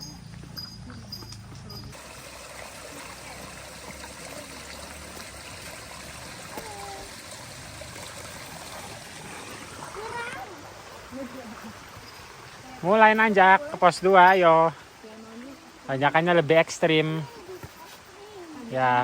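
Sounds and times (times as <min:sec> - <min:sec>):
stream of water rushing: 0:01.9 - 0:19.0.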